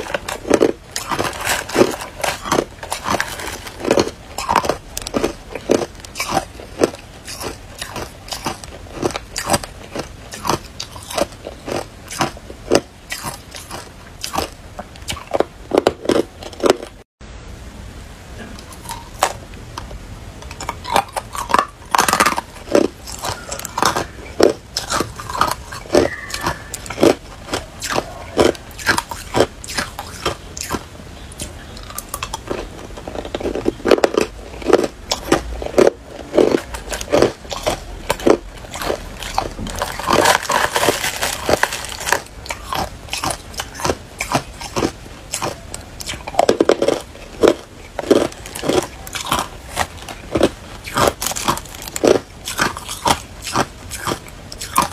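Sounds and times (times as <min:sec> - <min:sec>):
ice being chewed: 0:00.0 - 0:17.0, 0:18.6 - 0:19.4, 0:20.4 - 0:54.9.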